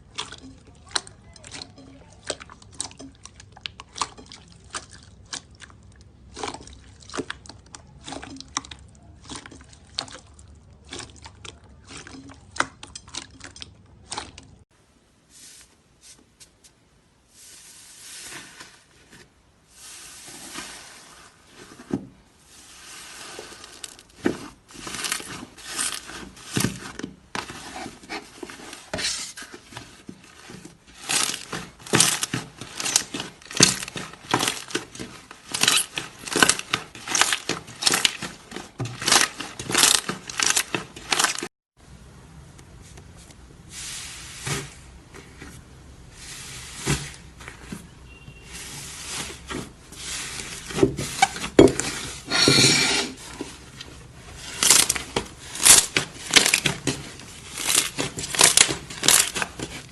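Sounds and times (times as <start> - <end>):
slime squishing: 0.0 - 14.7, 17.3 - 41.5, 43.8 - 59.9.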